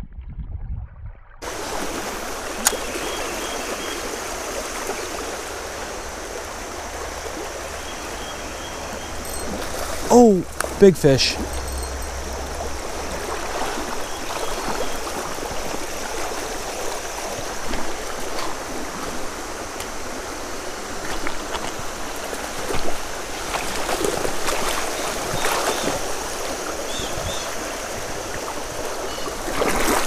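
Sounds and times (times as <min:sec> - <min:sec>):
creek water running over riffles: 0:01.4 - 0:30.0.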